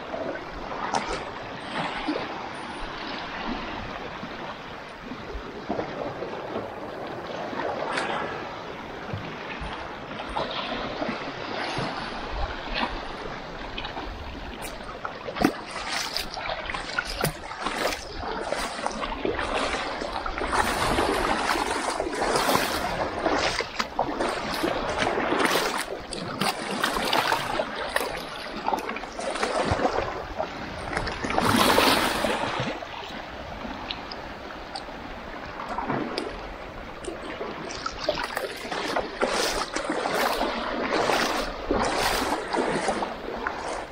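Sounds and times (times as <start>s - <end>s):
seawater splashing over rocks: 0.0s - 43.9s.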